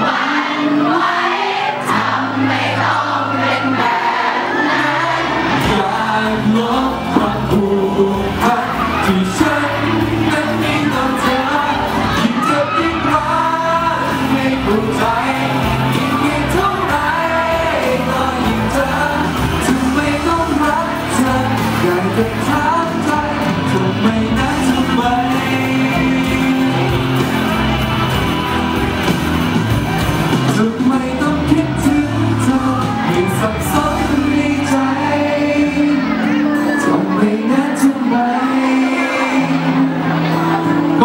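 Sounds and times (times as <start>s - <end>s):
man singing pop ballad: 0.0s - 28.1s, 30.3s - 41.0s
backing music: 0.0s - 41.0s.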